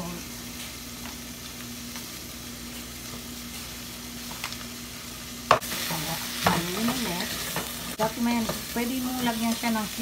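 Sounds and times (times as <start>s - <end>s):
carrots sizzling in oil: 0.0s - 10.0s.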